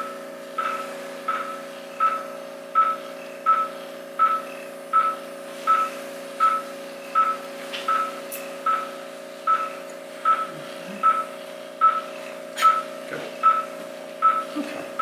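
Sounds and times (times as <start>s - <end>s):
equipment hum: 0.0s - 15.0s
patient monitor short beeps: 0.6s - 14.5s.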